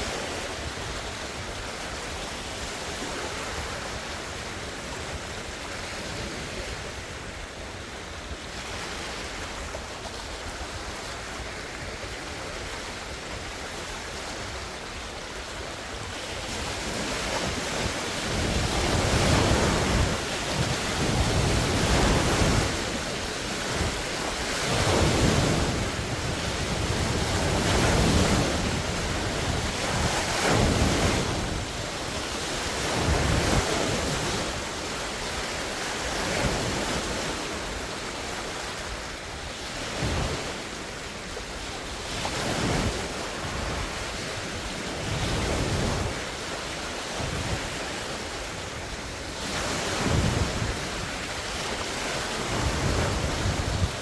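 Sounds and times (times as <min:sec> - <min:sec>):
waves breaking on shore: 0:00.0 - 0:54.0
wind on microphone: 0:00.0 - 0:54.0.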